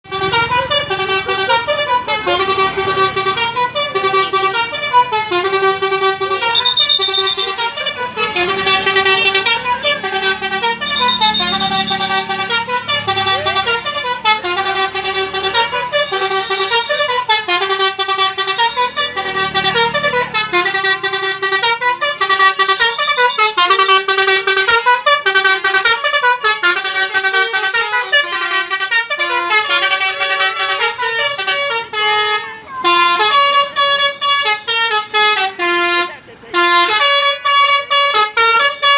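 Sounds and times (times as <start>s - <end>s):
musical air horn melody: 0.0s - 38.9s.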